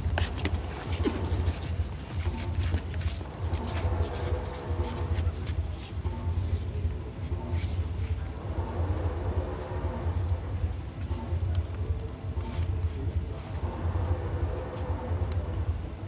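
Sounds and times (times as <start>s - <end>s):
crickets chirping: 0.0s - 16.0s
high insect trill: 0.0s - 16.0s
low rumble: 0.0s - 16.0s.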